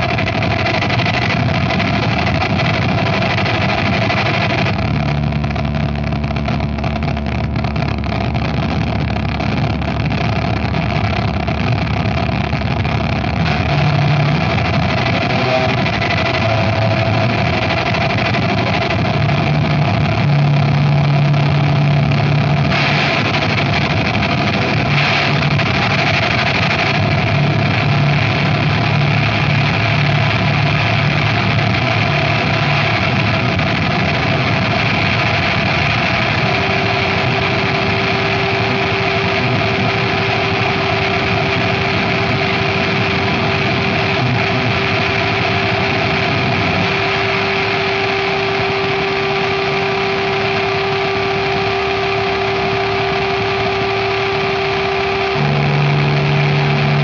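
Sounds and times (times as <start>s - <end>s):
harsh distorted noise music: 0.0s - 57.0s
low droning tones: 0.0s - 57.0s.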